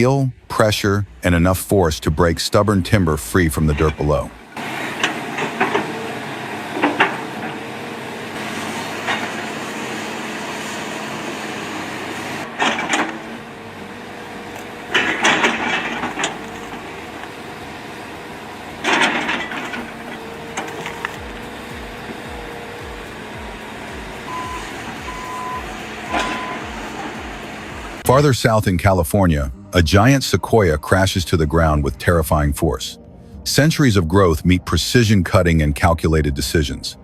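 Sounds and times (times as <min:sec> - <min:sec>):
excavator engine hum: 0:00.0 - 0:37.0.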